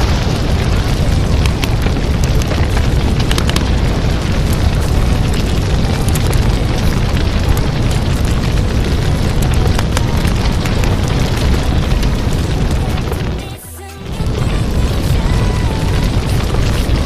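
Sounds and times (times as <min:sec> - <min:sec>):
loud low rumbling noise: 0:00.0 - 0:17.0.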